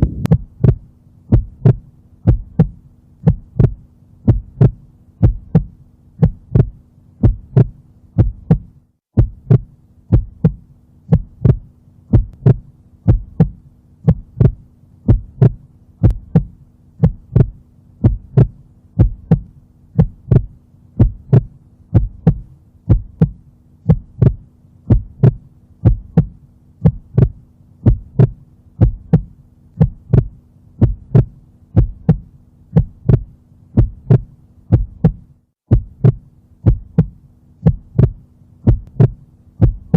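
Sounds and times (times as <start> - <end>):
faint steady hum: 0.0 - 39.9
heartbeat through stethoscope: 0.0 - 39.9.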